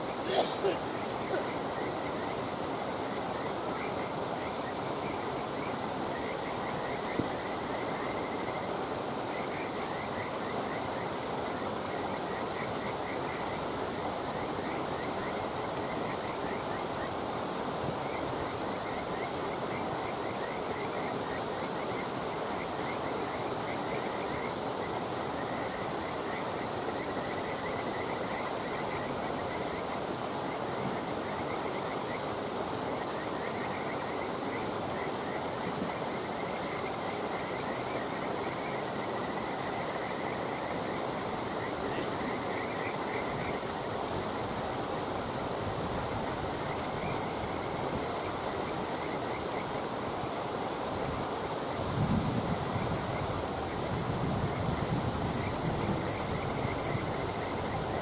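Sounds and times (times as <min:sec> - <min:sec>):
frogs trilling: 0:00.0 - 0:58.0
steady hiss: 0:00.0 - 0:58.0.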